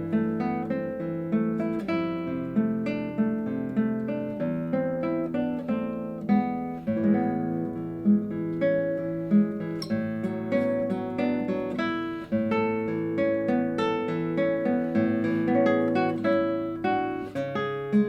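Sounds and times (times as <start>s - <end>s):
classical guitar playing: 0.0s - 18.0s.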